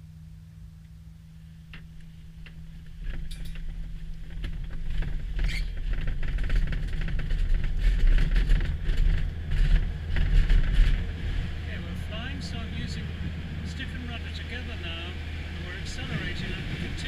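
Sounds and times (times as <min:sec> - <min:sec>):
steady low drone: 0:00.0 - 0:17.0
wheel rumble on grass: 0:01.7 - 0:17.0.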